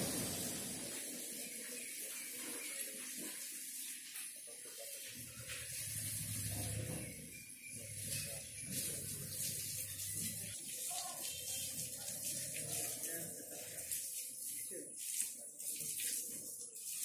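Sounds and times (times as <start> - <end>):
hiss of running water: 0.0 - 6.9, 7.9 - 17.0.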